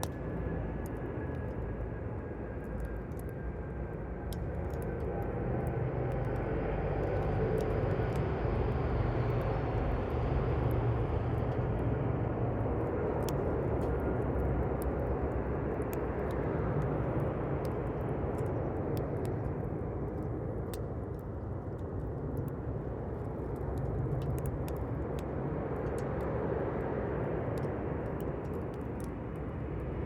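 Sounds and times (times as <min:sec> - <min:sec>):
campfire low rush: 0:00.0 - 0:30.0
burning wood crackling and popping: 0:04.2 - 0:30.0.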